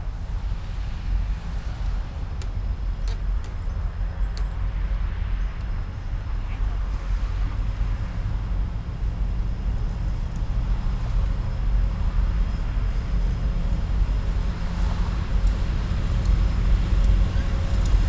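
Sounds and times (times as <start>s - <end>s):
diesel locomotives rumbling: 0.0s - 18.0s.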